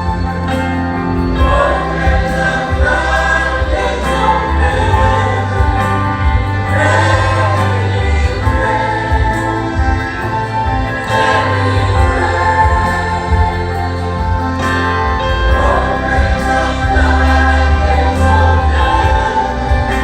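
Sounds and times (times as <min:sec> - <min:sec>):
choir singing gospel music: 0:00.0 - 0:20.0
held bass: 0:00.0 - 0:20.0.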